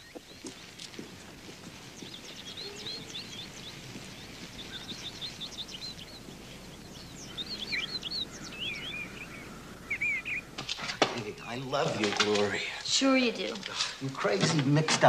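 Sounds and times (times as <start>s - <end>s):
small birds chirping: 0.0s - 14.8s
faint steady hiss: 0.0s - 15.0s.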